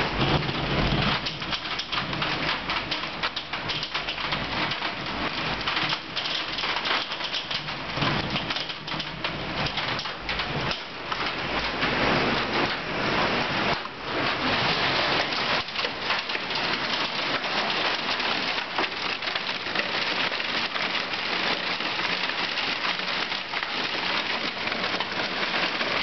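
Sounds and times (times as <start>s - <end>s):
hailstones clicking: 0.0s - 26.0s
heavy rain: 0.0s - 26.0s.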